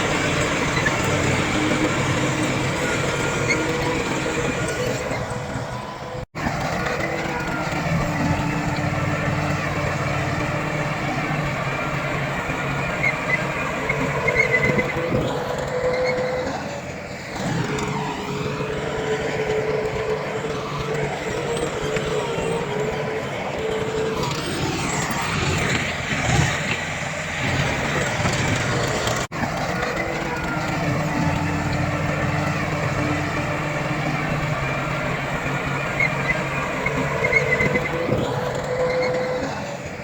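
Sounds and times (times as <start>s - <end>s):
heavy diesel machinery running: 0.0s - 40.0s.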